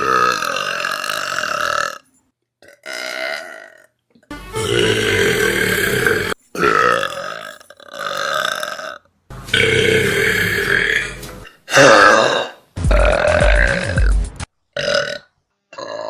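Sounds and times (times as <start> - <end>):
person burping: 0.0 - 2.0, 2.6 - 4.0, 4.6 - 14.2, 14.8 - 16.0.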